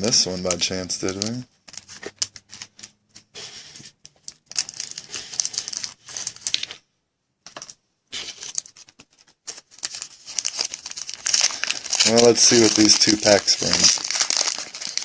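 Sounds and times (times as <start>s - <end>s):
cards and foil wrappers rustling: 0.0s - 6.8s, 7.5s - 15.0s.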